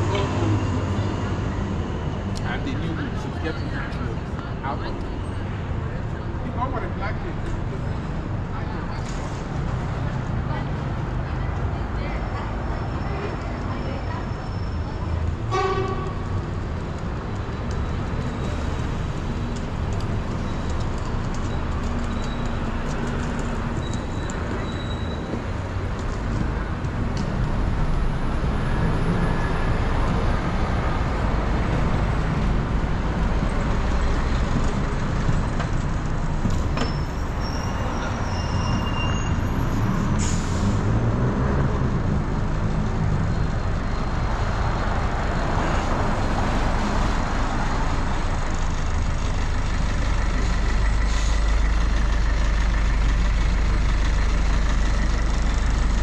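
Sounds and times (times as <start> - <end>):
bus engine rumbling: 0.0 - 56.0
road traffic noise: 0.0 - 56.0.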